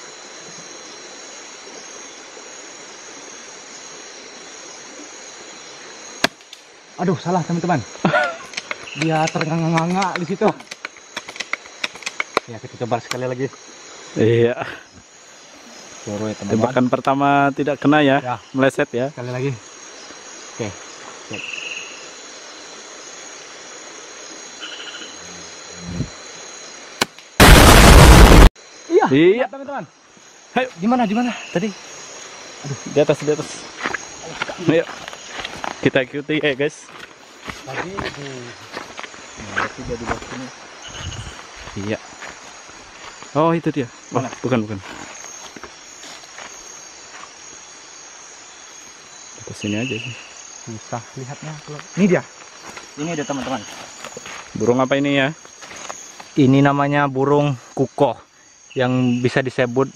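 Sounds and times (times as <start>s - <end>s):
insects buzzing at night: 0.0s - 59.9s.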